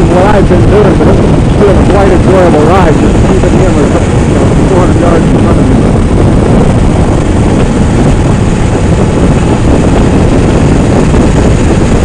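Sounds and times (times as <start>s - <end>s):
motorcycle engine: 0.0s - 12.0s
road noise: 0.0s - 12.0s
wind buffeting microphone: 0.0s - 12.0s.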